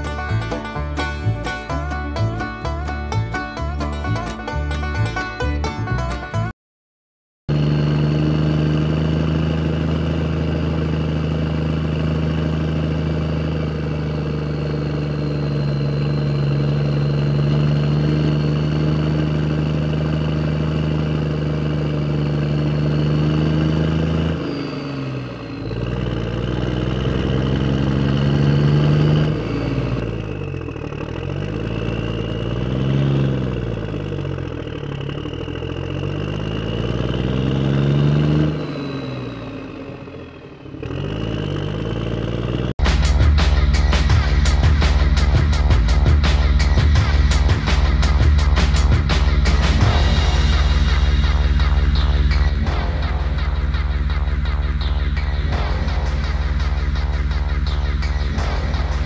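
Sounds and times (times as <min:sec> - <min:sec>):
engine idling and revving: 0:00.0 - 0:06.5, 0:07.5 - 0:59.0.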